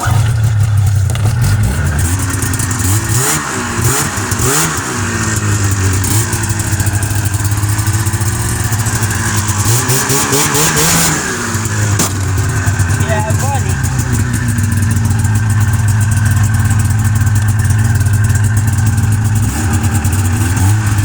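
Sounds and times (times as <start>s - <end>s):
two-stroke engine idling and revving: 0.0s - 21.0s.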